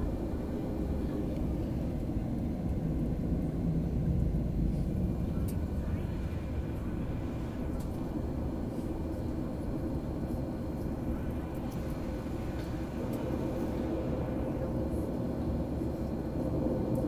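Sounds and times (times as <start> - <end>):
airplane engines idling rumble: 0.0 - 17.0
faint steady hum: 0.0 - 17.0.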